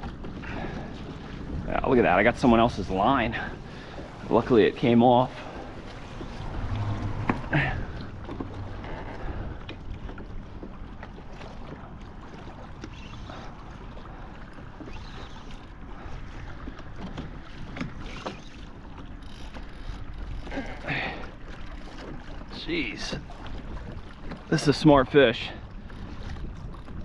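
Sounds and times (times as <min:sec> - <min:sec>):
water against kayak hull: 0:00.0 - 0:27.0
wind rumbling on microphone: 0:00.0 - 0:27.0.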